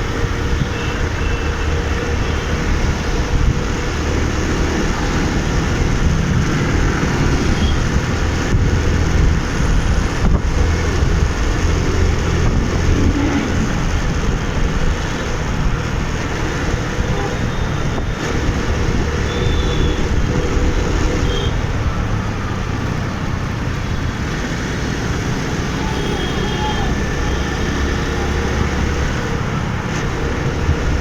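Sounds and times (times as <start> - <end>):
motorbike engine hum: 0.0 - 31.0
road traffic rumble: 0.0 - 31.0.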